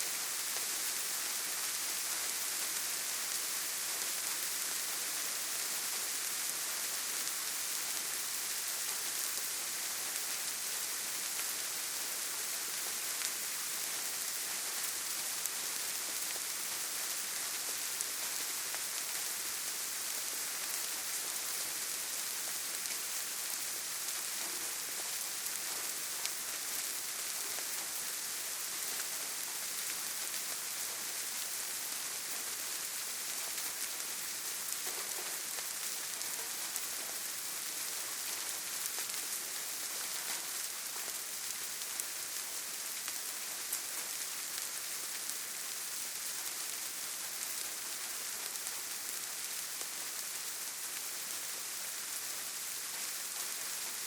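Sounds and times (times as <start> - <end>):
soft rain falling: 0.0 - 54.0.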